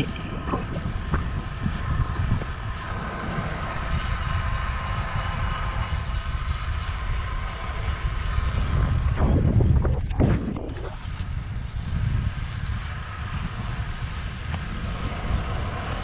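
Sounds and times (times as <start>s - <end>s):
low rumble: 0.0s - 16.0s
steady whine: 0.0s - 16.0s
wind buffeting microphone: 0.0s - 16.0s.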